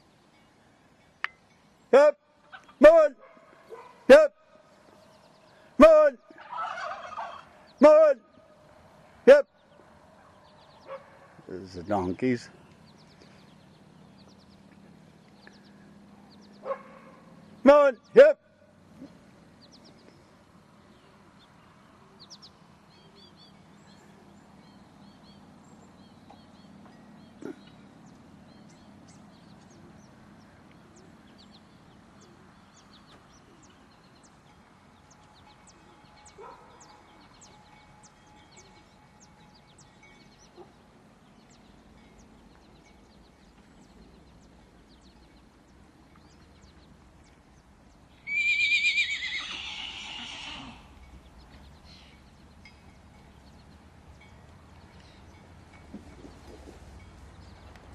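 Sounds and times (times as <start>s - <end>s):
distant bird calls: 0.0s - 57.9s.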